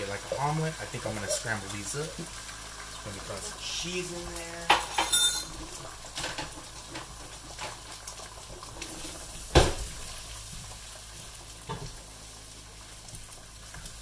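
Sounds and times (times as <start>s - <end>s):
eggs sizzling in frying pan: 0.0s - 14.0s.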